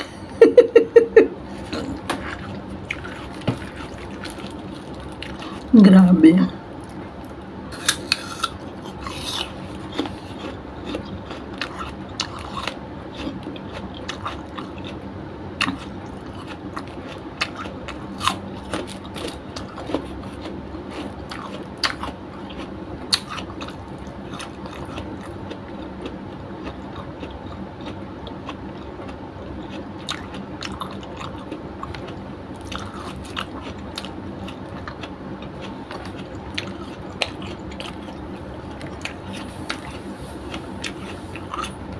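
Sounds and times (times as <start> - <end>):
person chewing and crunching food: 1.4 - 5.8, 6.7 - 41.9.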